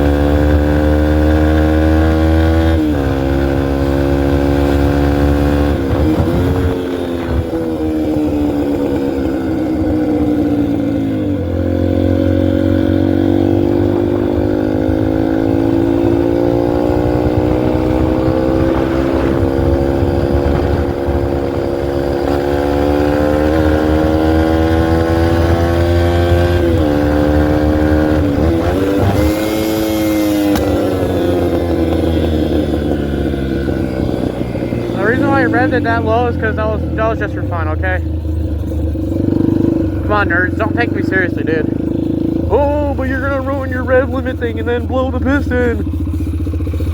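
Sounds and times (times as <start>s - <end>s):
dirt bike engine revving high: 0.0s - 46.9s.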